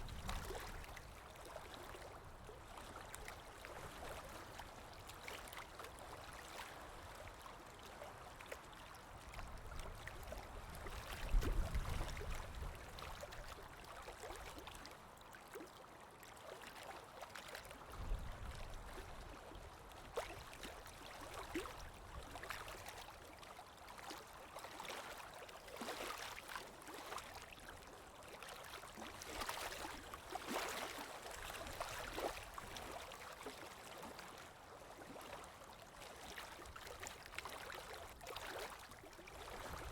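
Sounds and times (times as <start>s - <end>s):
water splashes and drips: 0.0s - 39.9s
water trickling and gurgling: 0.0s - 39.9s.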